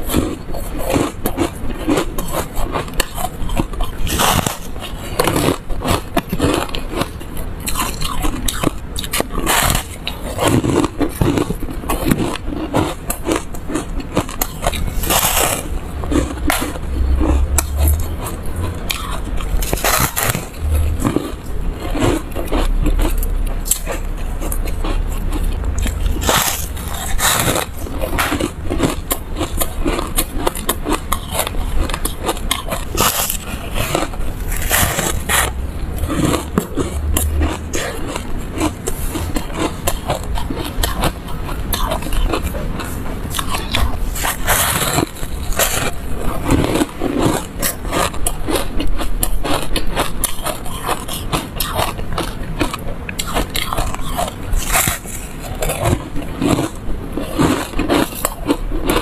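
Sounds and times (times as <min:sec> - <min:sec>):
crunchy chewing close up: 0:00.0 - 0:59.0.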